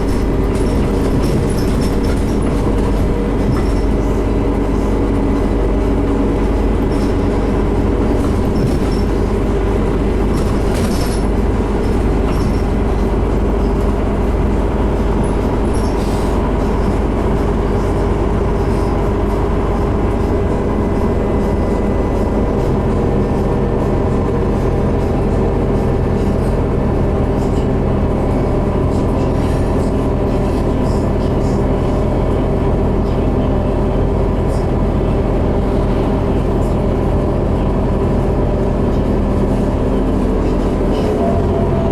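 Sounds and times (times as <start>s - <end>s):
bus engine drone: 0.0s - 41.9s
road and cabin noise: 0.0s - 41.9s.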